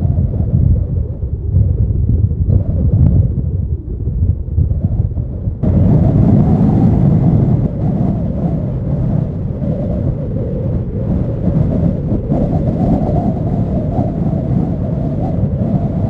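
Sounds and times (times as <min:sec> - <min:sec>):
distant jet engines rumbling: 0:00.0 - 0:16.0
wind buffeting microphone: 0:00.0 - 0:16.0.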